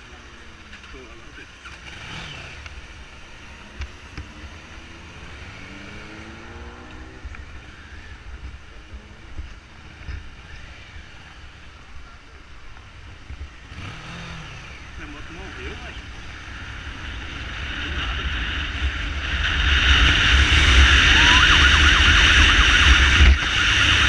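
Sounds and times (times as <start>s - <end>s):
motorcycle engine accelerating: 0.0s - 12.1s, 13.0s - 24.0s
wind and road noise: 0.0s - 24.0s.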